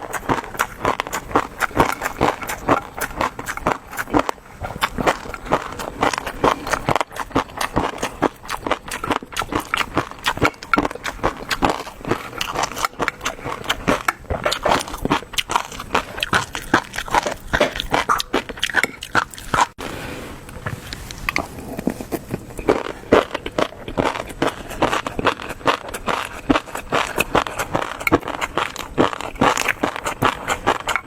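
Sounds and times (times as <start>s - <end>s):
chewing crackling close up: 0.0s - 19.8s, 20.5s - 31.0s.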